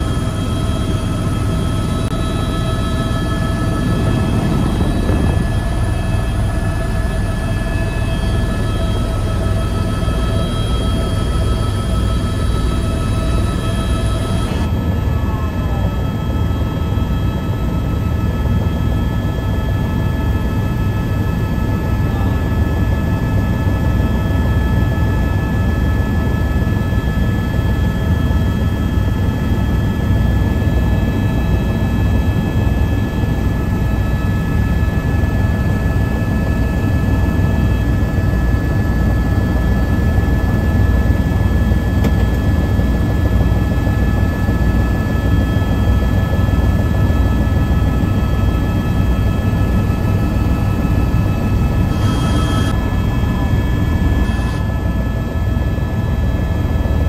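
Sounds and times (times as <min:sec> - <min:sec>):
helicopter rotor and engine drone: 0:00.0 - 0:57.0
high turbine whine: 0:00.0 - 0:57.0.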